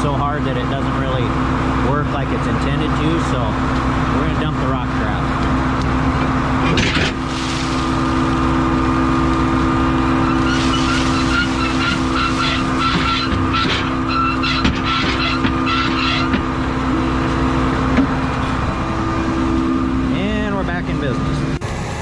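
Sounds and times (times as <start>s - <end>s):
combine running: 0.0s - 22.0s.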